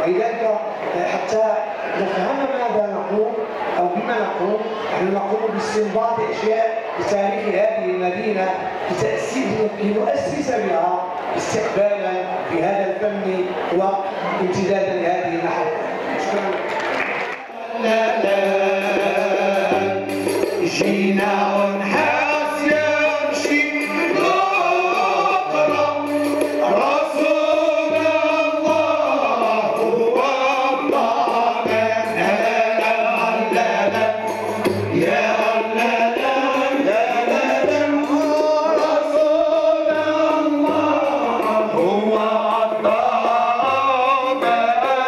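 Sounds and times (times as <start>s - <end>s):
men's chorus chanting: 0.0s - 45.0s.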